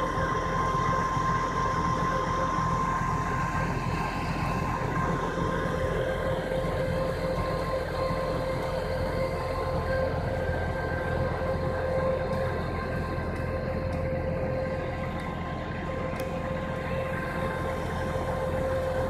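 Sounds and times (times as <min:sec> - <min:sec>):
high-pitched whine: 0:00.0 - 0:19.0
truck engine running: 0:00.0 - 0:19.0.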